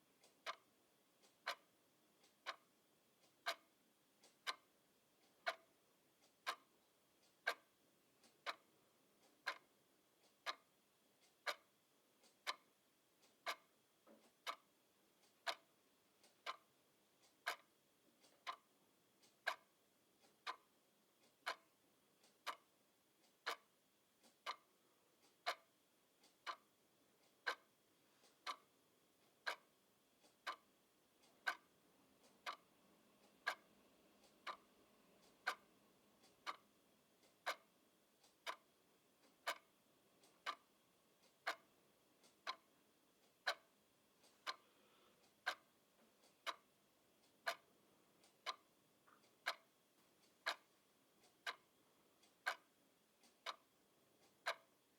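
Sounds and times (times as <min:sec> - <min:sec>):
mechanical clock ticking: 0:00.0 - 0:54.9.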